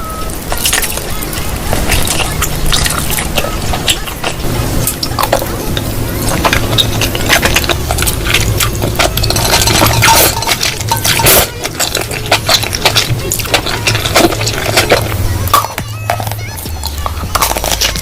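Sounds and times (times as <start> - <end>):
steady low hum: 0.0 - 18.0
chewing crunches and clicks: 0.3 - 18.0.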